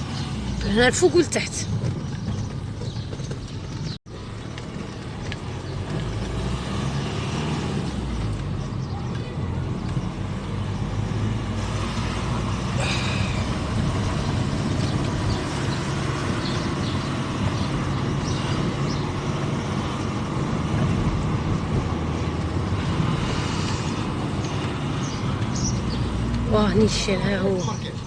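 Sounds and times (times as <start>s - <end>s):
car engine hum: 0.0s - 28.0s
tyre road noise: 0.0s - 28.0s.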